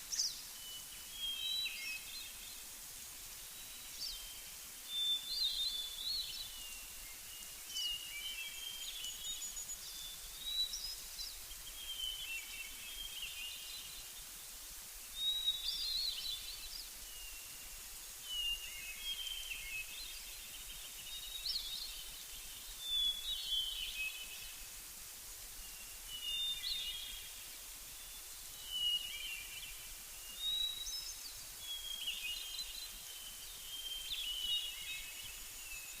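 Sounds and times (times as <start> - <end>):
faint steady hiss: 0.0 - 36.0
songbirds chirping: 0.0 - 36.0.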